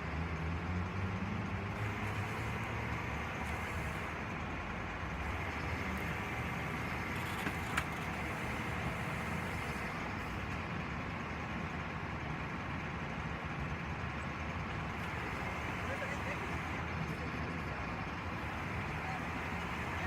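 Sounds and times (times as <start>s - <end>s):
heavy machinery engines running: 0.0s - 20.0s.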